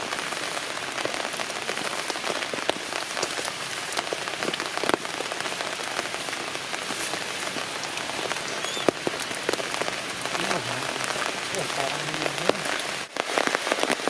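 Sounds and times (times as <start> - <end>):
raindrops ticking on surfaces: 0.0 - 14.0
steady rain falling: 0.0 - 14.0.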